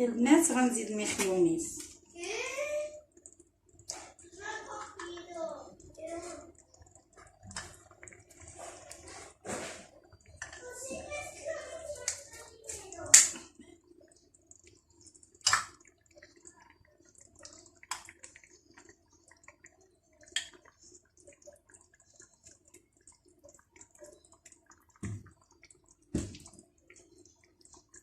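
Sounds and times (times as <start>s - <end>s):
simmering rice crackling: 0.0s - 28.0s.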